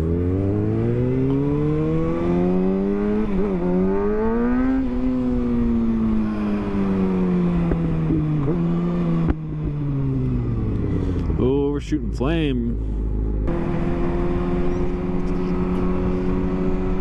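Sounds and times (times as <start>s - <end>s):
motorcycle engine accelerating: 0.0s - 11.6s, 13.0s - 17.0s.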